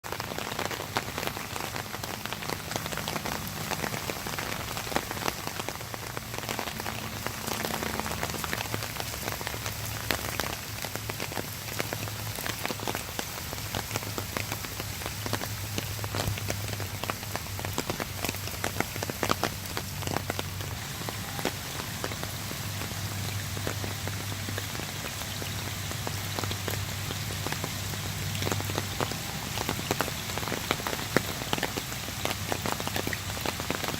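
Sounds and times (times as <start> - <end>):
water rushing with drop ticks: 0.0 - 33.9.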